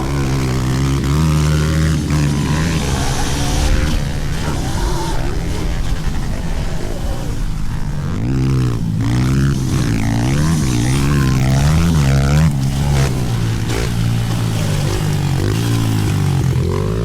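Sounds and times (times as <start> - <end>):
drone of engines: 0.0 - 17.0
small motorcycle engines revving: 0.0 - 17.0.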